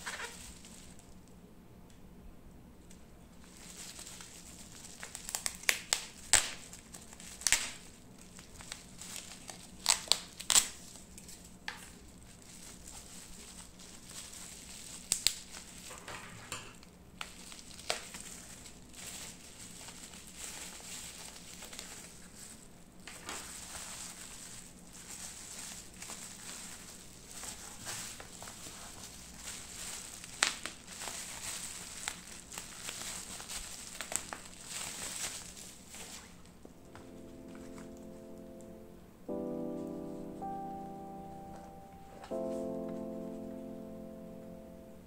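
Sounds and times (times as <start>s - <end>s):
bubble wrap crackling: 0.0s - 1.2s, 3.3s - 16.1s, 16.7s - 44.9s.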